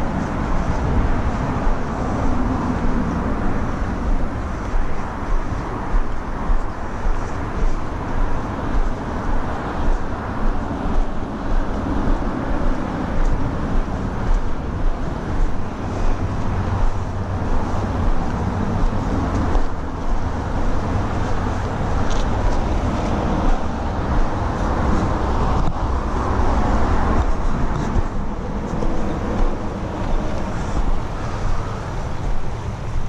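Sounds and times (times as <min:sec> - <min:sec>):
footsteps on dirt trail: 0:00.0 - 0:33.0
low rumble: 0:00.0 - 0:33.0.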